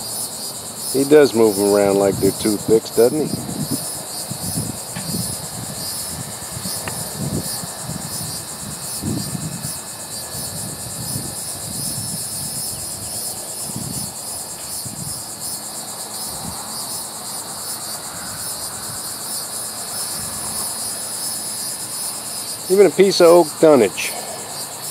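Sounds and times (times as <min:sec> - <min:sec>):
insect chorus with pulsing trill: 0:00.0 - 0:24.9.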